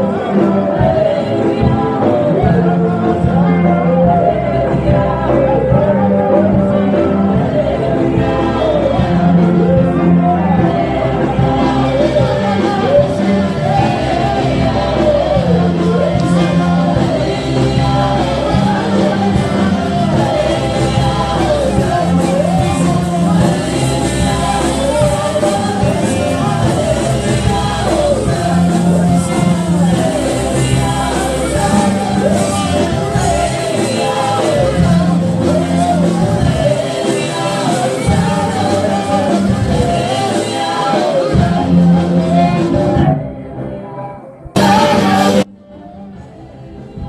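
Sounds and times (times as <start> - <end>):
electric guitar: 0.0 - 47.0
keyboard: 0.0 - 47.0
lead voice singing: 0.0 - 47.0
worship team singing gospel: 0.0 - 47.0.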